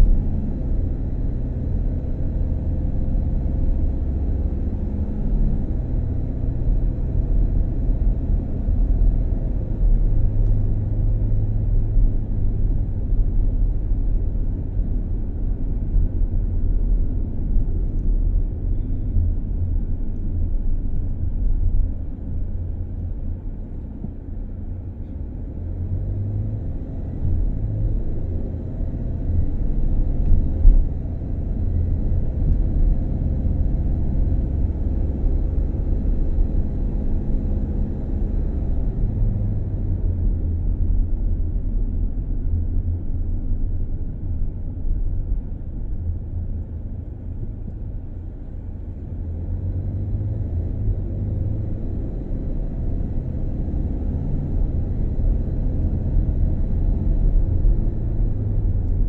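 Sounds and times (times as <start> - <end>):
vehicle cabin road rumble: 0.0 - 59.0.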